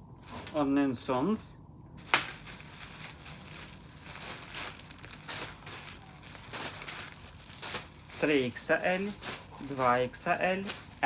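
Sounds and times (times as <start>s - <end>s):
packaging crinkling and rustling: 2.0s - 11.0s.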